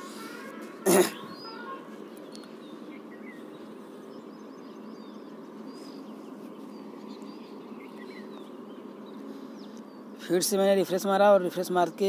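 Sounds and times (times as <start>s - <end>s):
faint bird chirps: 0.0s - 10.9s
steady background noise: 0.0s - 12.0s.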